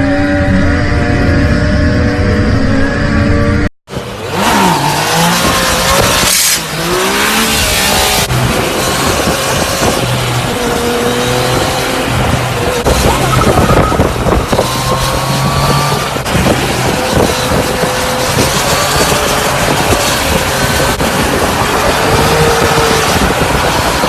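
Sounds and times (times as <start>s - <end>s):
tyre and road noise: 0.0s - 24.0s
vehicle engine revving: 0.0s - 24.0s.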